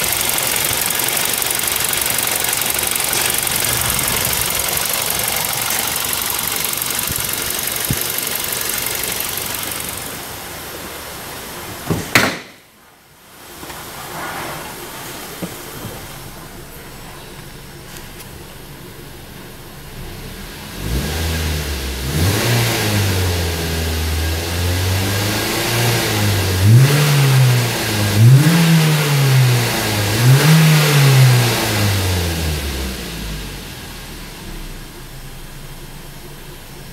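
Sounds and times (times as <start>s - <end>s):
car engine idling and revving: 0.0s - 11.8s, 14.8s - 36.9s.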